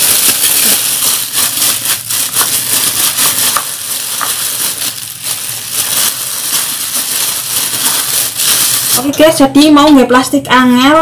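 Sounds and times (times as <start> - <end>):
hand squeezing mashed food: 0.0 - 9.0
plastic glove rustling: 0.0 - 9.5.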